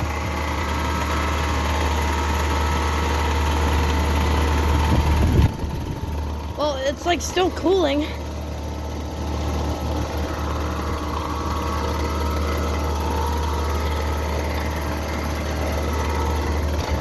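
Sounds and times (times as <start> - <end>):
compressor noise: 0.0 - 17.0
heat pump deep hum: 0.0 - 17.0.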